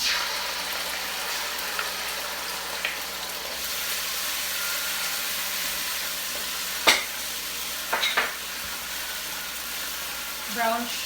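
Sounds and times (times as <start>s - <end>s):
sauce sizzling in a hot pan: 0.0s - 11.0s.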